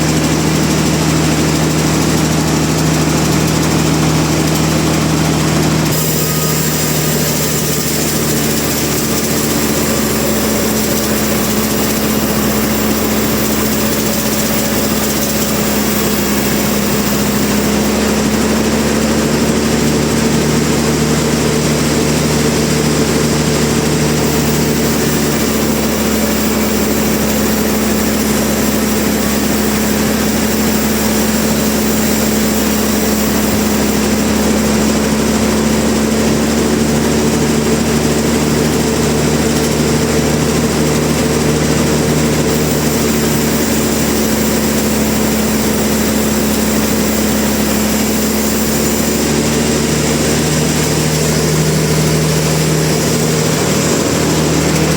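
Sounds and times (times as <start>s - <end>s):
sawmill machinery hum: 0.0s - 54.9s.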